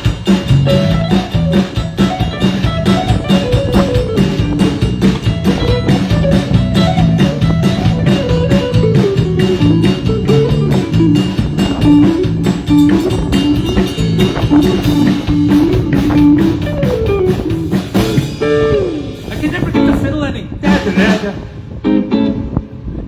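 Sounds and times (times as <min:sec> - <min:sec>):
drum kit beat: 0:00.0 - 0:21.6
bass guitar: 0:00.0 - 0:23.0
guitar melody: 0:00.0 - 0:23.0.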